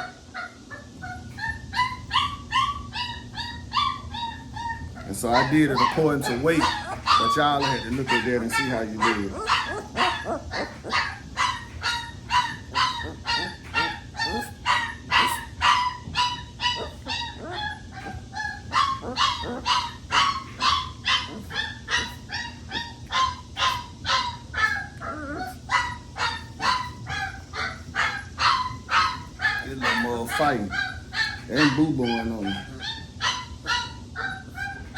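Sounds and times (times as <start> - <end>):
puppy yelping: 0.0 - 34.9.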